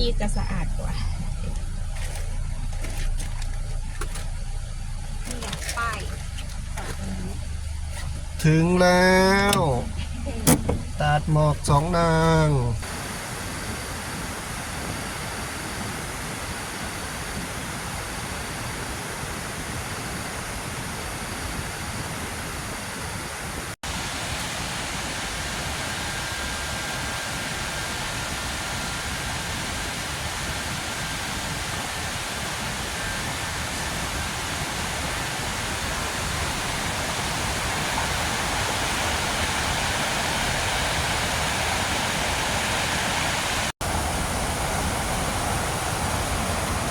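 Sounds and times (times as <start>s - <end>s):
waterfall roaring: 5.3s - 20.4s, 21.0s - 46.9s.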